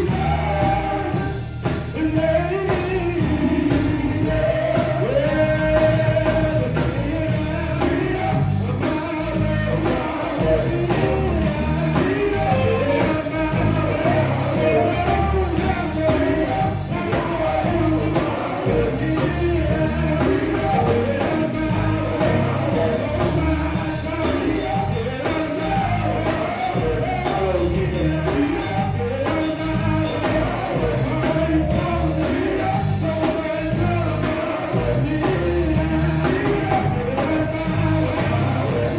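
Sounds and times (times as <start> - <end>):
band playing steady beat: 0.0 - 38.9
men singing in harmony: 0.0 - 38.9.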